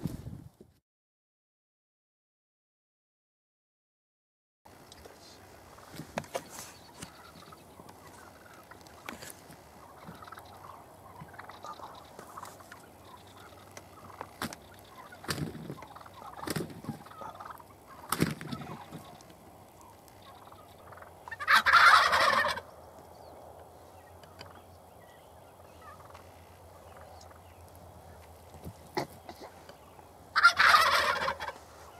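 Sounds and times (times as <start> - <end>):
turkeys gobbling: 5.3 - 31.9.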